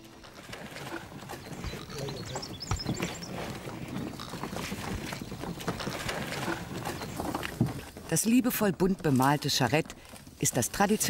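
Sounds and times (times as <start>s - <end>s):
ox hooves on dirt: 0.0s - 11.0s
wooden cart rattling: 0.0s - 11.0s.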